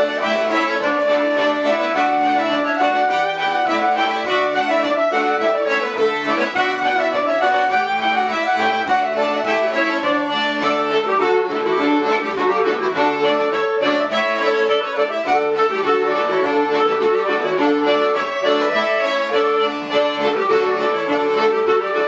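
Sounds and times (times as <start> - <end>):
button accordion: 0.0 - 22.0
fiddle playing folk tune: 0.0 - 22.0.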